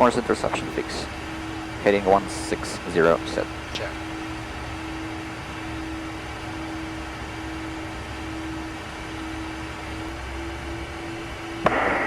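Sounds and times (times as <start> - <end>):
rushing airflow: 0.0 - 10.2
constant low tone: 0.0 - 12.0
jet engines humming: 0.0 - 12.0.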